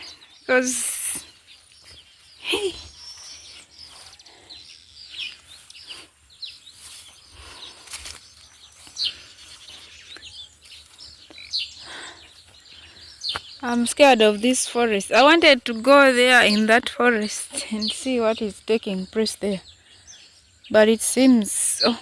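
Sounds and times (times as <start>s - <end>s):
birds chirping: 0.0s - 22.0s
rustling vegetation: 0.0s - 22.0s.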